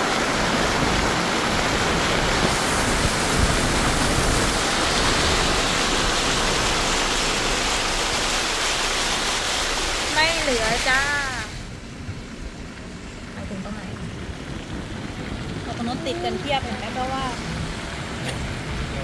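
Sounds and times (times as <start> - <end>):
rain falling: 0.0 - 19.0
tyres churning through floodwater: 0.0 - 19.0.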